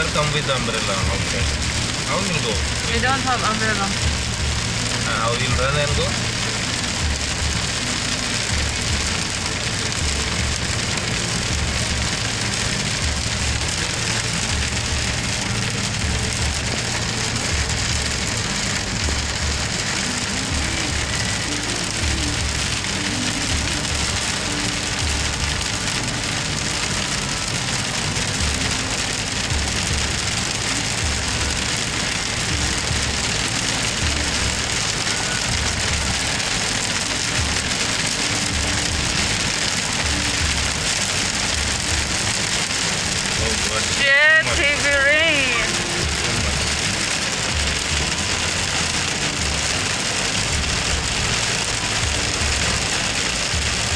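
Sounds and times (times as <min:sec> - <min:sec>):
heavy rain on car roof: 0:00.0 - 0:53.9.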